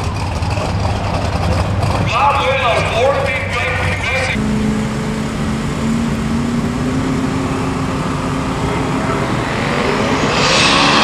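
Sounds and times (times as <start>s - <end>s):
race car engine running: 0.0s - 11.0s
rising engine whine: 0.0s - 11.0s.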